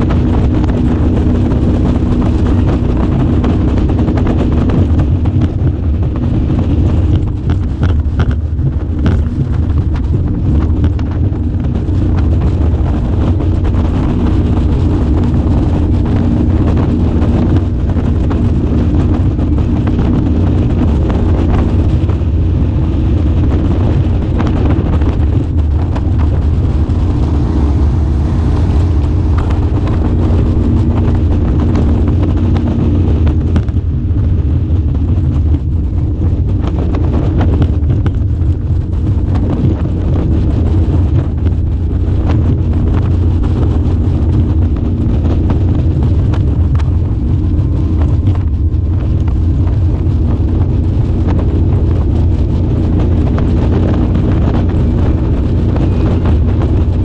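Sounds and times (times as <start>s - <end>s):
boat engine droning: 0.0s - 57.0s
wind on microphone: 0.0s - 57.0s.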